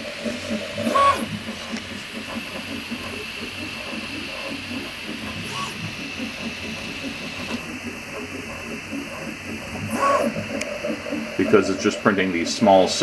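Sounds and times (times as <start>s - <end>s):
cooling fans hissing: 0.0s - 13.0s
stepper motors whirring: 0.0s - 13.0s.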